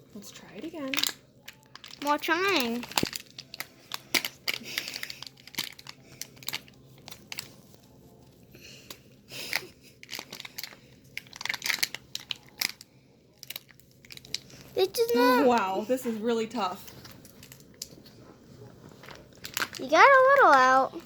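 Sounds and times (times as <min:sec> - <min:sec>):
plastic icing bag crinkling: 0:00.6 - 0:21.0.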